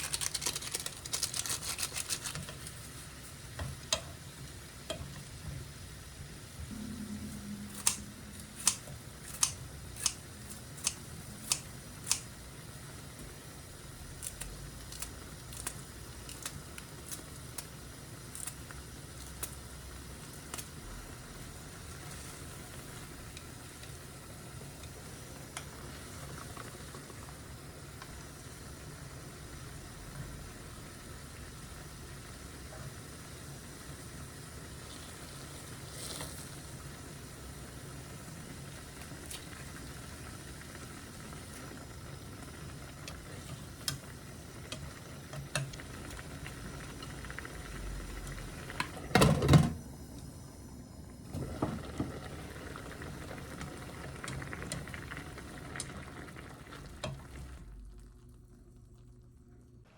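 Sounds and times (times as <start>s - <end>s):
pan sizzling: 0.0s - 49.7s, 51.2s - 57.9s.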